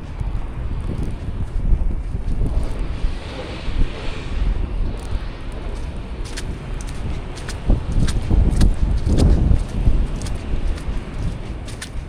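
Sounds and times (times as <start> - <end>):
blizzard wind buffeting microphone: 0.0 - 12.0.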